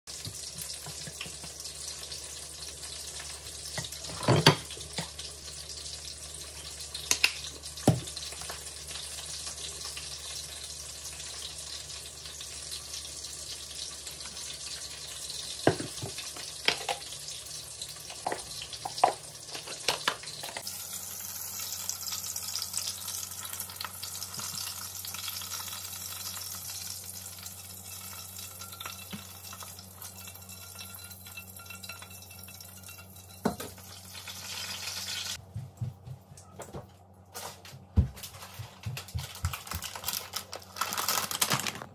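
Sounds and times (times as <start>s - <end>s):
food sizzling in oil: 0.1s - 35.4s.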